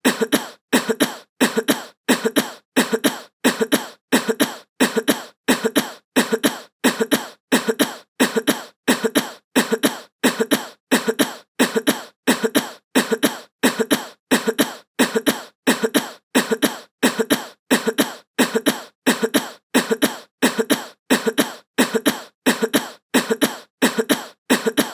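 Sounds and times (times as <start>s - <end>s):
person coughing: 0.0s - 24.9s.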